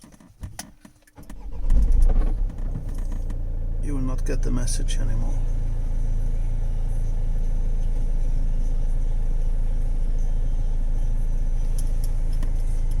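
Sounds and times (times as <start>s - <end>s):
diesel engine idling: 1.4s - 13.0s.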